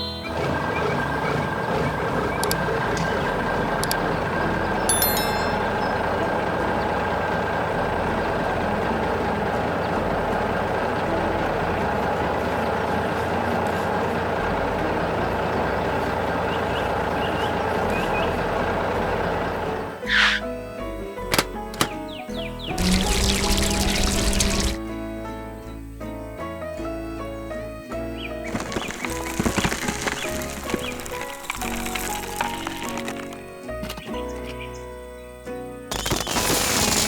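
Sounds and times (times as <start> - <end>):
heavy truck engine running: 0.0 - 25.0, 28.0 - 35.1.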